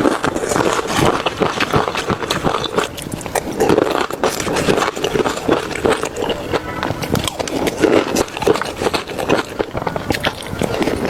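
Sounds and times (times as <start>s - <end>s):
person chewing and smacking: 0.0s - 11.0s
wet mouth clicks: 0.0s - 11.0s.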